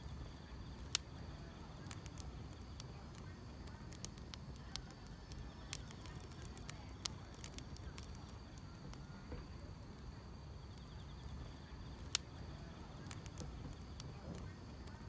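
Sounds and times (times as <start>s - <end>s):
faint insect chirping: 0.0s - 15.0s
wood fire crackling: 0.0s - 15.0s.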